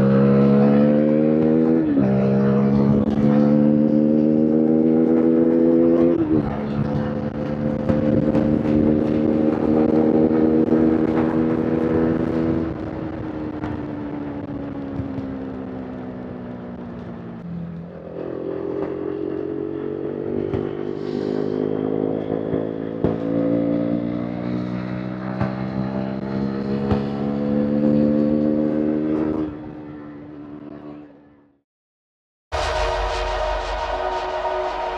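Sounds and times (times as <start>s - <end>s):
motorcycle engine and exhaust: 0.0s - 31.6s.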